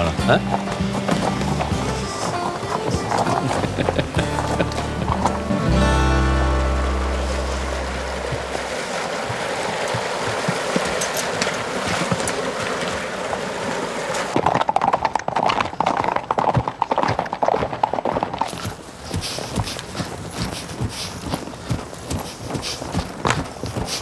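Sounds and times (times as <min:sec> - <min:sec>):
horse hooves clip-clopping: 0:00.0 - 0:24.0.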